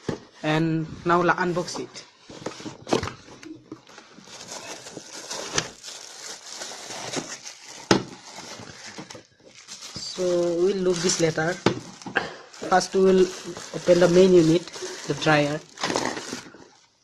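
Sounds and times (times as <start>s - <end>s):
packaging rustling and crinkling: 1.1s - 17.0s.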